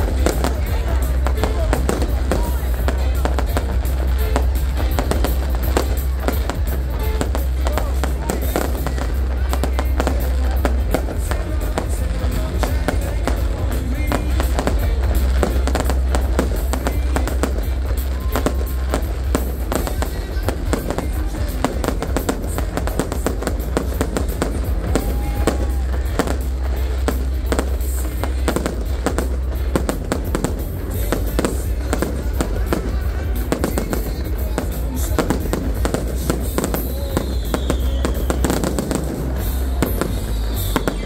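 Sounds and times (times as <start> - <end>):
fireworks bursting: 0.0 - 41.0
loud music: 0.0 - 41.0.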